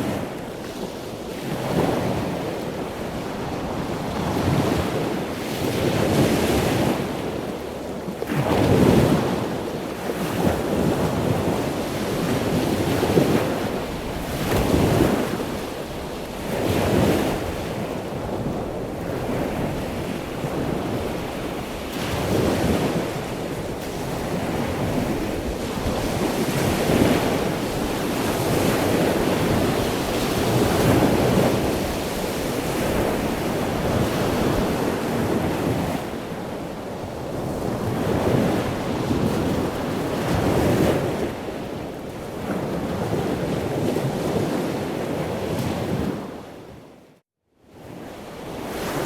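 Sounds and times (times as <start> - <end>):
ocean waves on shore: 0.0 - 49.0.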